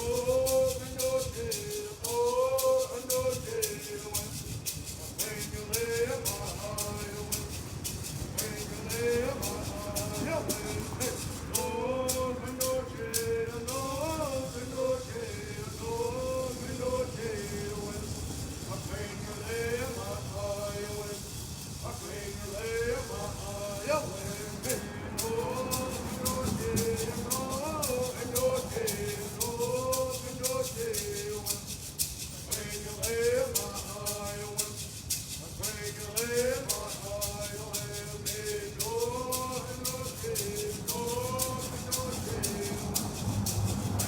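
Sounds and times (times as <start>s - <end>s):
person singing a chant: 0.0s - 44.0s
rattle shaking: 0.0s - 44.0s.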